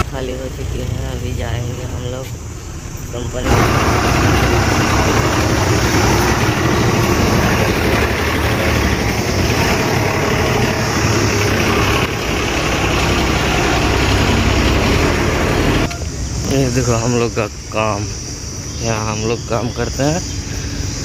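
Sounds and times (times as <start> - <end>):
bus engine running: 0.0 - 21.0.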